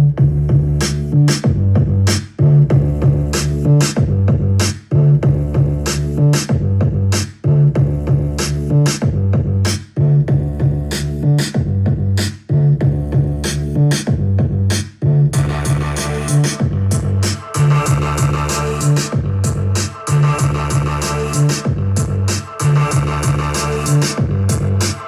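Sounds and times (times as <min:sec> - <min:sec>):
deep looping bass line: 0:00.0 - 0:25.0
hip-hop beat: 0:00.0 - 0:25.0.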